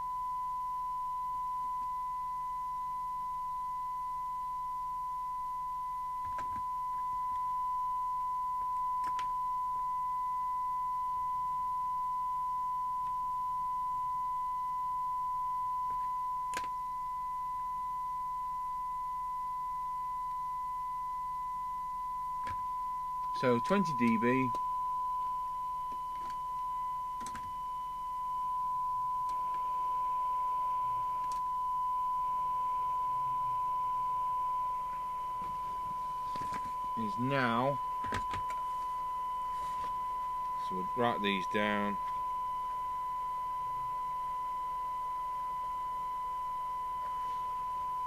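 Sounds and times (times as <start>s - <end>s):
steady test tone: 0.0s - 48.0s.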